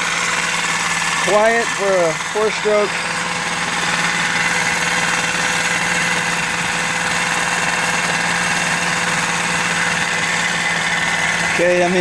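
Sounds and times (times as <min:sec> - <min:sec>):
outboard engine running: 0:00.0 - 0:12.0.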